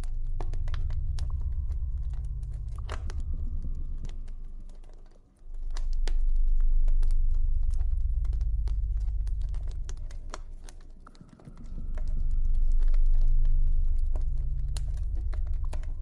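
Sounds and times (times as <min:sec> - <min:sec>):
low ambient drone: 0:00.0 - 0:16.0.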